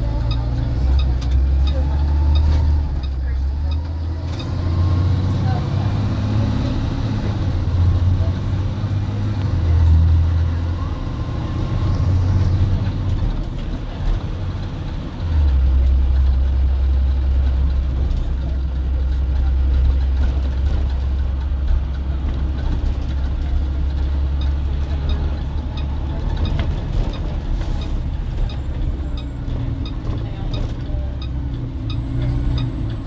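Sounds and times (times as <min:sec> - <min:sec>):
bus engine drone: 0:00.0 - 0:33.0.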